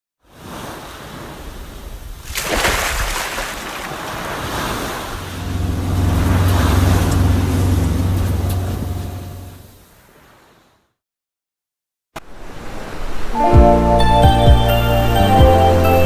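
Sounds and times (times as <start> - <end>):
ocean waves washing in: 0.2 - 11.0, 12.2 - 15.4.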